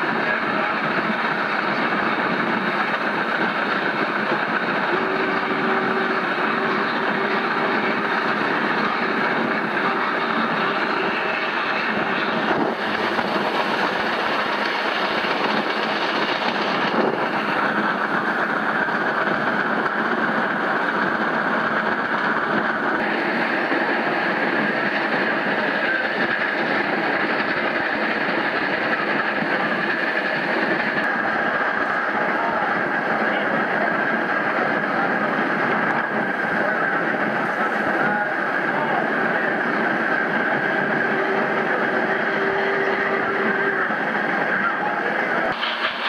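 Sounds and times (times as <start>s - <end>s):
steam locomotive exhaust rushing: 0.0s - 46.0s
train wheels rolling: 0.0s - 46.0s.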